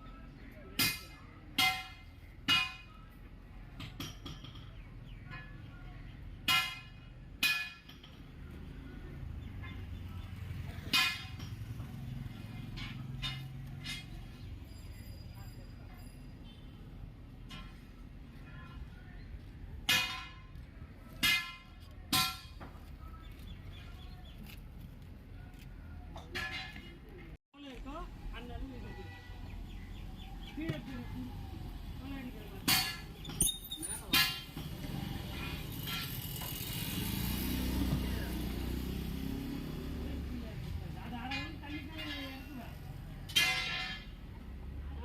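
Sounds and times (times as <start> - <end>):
faint workshop background: 0.0 - 29.4, 30.2 - 39.4, 40.2 - 45.0.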